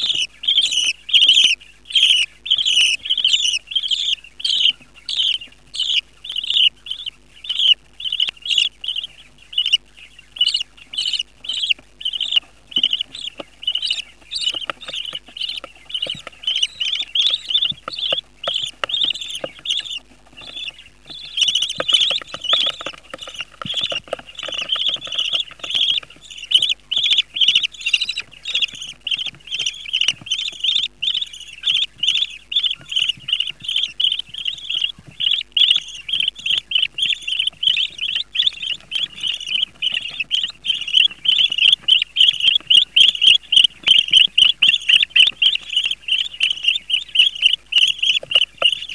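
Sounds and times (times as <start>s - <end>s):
chicks cheeping: 0.0s - 48.9s.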